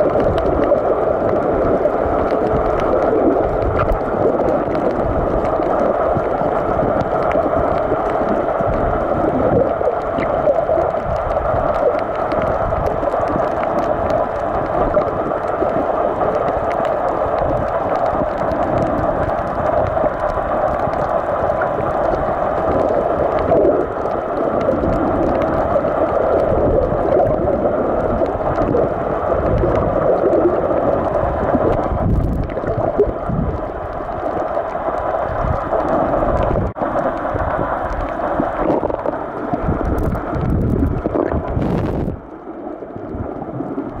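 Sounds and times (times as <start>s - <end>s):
rumbles of moving water: 0.0s - 44.0s.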